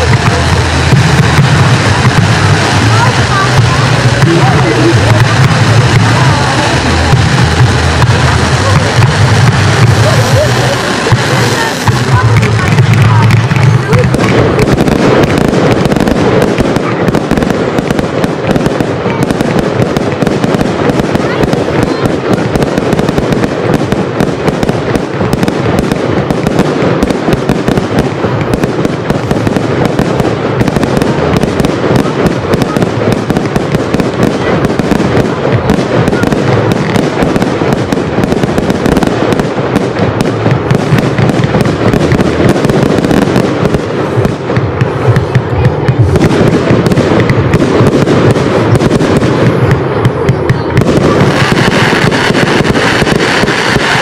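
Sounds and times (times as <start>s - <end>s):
fireworks launches and bangs: 0.0s - 54.0s.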